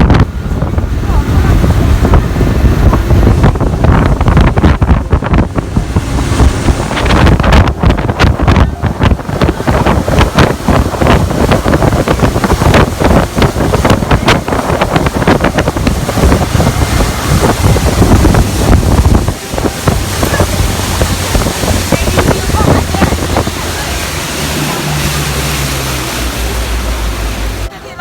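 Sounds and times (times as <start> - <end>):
wind buffeting microphone: 0.0 - 27.7
water rushing and splashing: 0.0 - 28.0.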